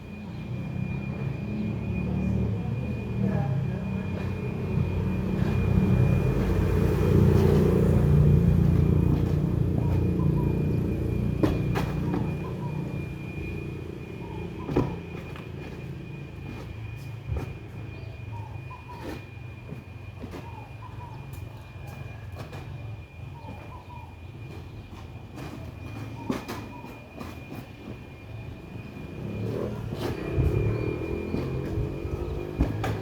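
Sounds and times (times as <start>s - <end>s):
steady high whine: 0.0s - 33.0s.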